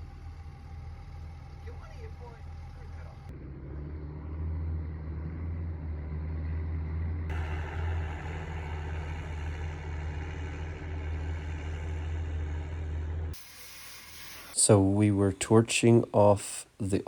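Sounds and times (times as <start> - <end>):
farm machinery diesel engine: 0.0 - 17.0.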